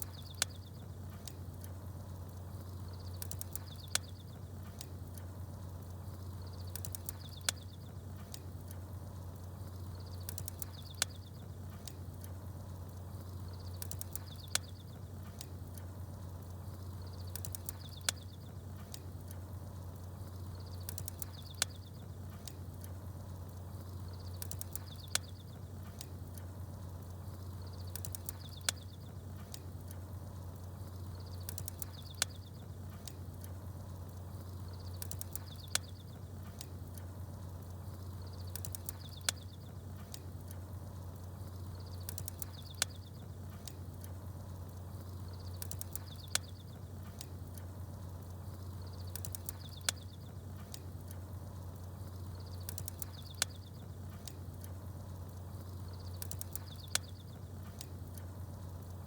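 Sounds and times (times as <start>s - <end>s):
fire crackle: 0.0s - 59.0s
small birds chirping: 0.0s - 59.0s
steady low hum: 0.0s - 59.0s.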